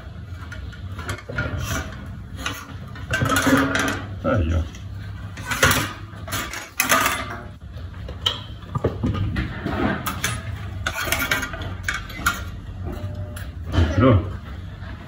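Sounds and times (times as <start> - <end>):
fan guard and blades rattling: 0.0 - 13.0.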